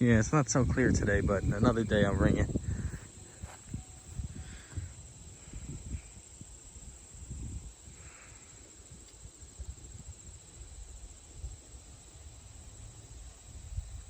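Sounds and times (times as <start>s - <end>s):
insect hum: 0.0s - 14.0s
wind rumble on microphone: 0.0s - 14.0s.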